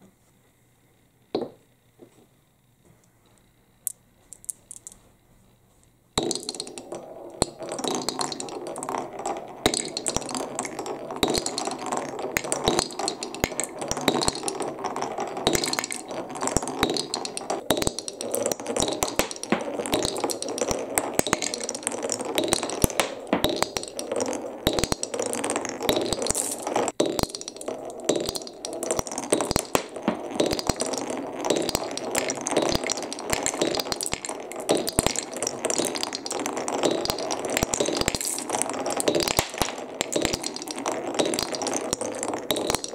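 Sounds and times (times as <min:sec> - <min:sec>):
marbles clattering on wooden track: 0:03.8 - 0:05.0, 0:06.2 - 0:42.9.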